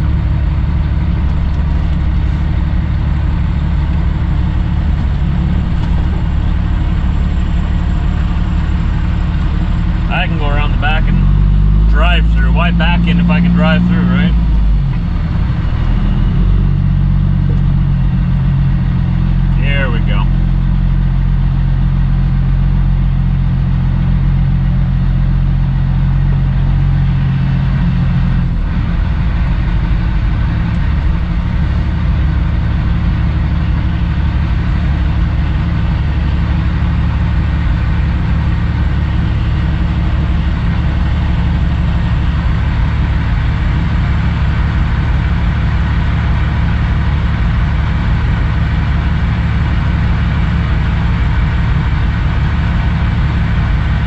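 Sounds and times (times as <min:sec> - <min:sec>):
diesel truck engine running low: 0:00.0 - 0:54.0.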